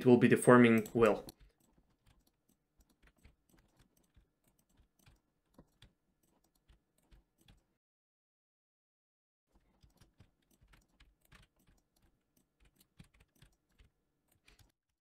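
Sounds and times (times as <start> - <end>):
computer keyboard and mouse clicks: 0.6 - 7.7, 9.5 - 14.8.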